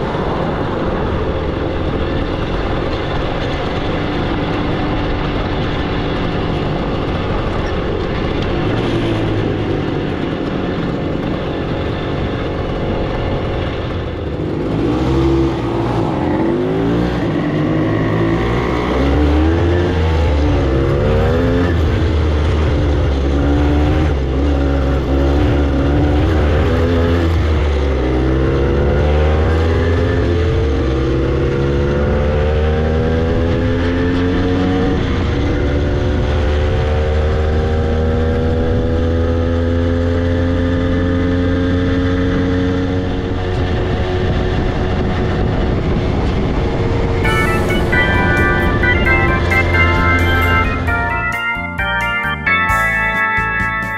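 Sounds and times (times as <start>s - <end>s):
two-stroke motorcycle engine: 0.0s - 47.3s.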